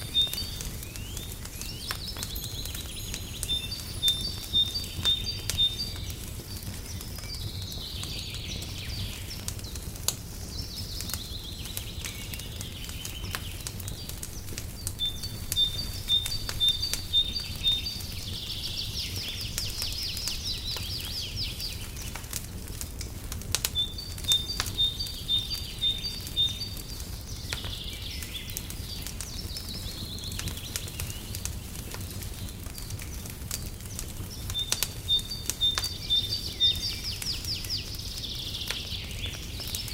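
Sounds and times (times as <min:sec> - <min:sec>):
songbird singing: 0:00.0 - 0:22.8, 0:23.5 - 0:39.9
wood fire crackling and popping: 0:00.0 - 0:39.9.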